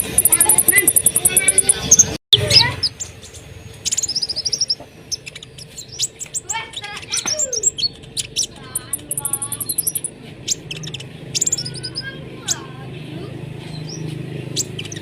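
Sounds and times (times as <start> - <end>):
fast high bird trill: 0.0 - 12.7
songbirds chirping: 0.0 - 15.0.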